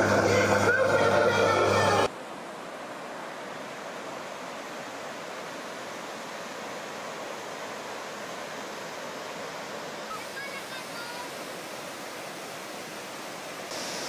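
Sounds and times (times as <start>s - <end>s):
stream rushing over rocks: 2.1s - 14.0s.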